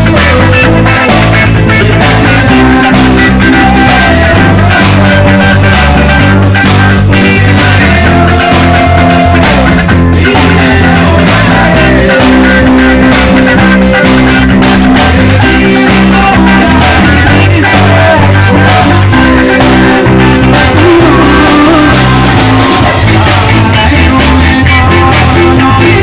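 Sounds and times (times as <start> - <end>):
drum kit beat: 0.0 - 26.0
electric guitar: 0.0 - 26.0
people singing into microphones: 0.0 - 26.0.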